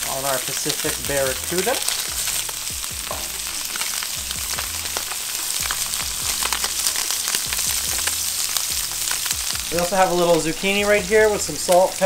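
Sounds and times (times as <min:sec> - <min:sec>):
fish sizzling in a pan: 0:00.0 - 0:12.0
oil spitting and crackling: 0:00.0 - 0:12.0.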